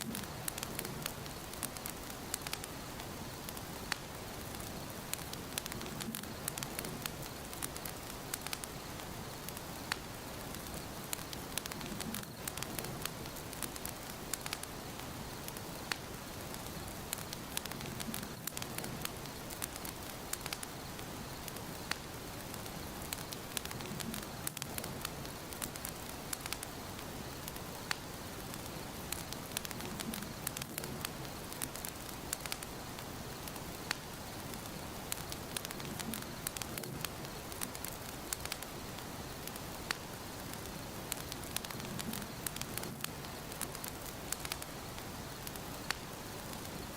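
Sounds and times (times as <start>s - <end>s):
fire pops and snaps: 0.0s - 46.9s
soft hiss of fire: 0.0s - 46.9s
wood fire crackling: 0.0s - 46.9s.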